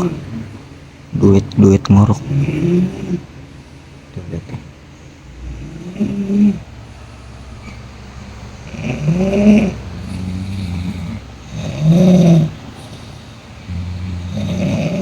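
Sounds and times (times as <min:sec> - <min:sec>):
people snoring: 0:00.0 - 0:15.0.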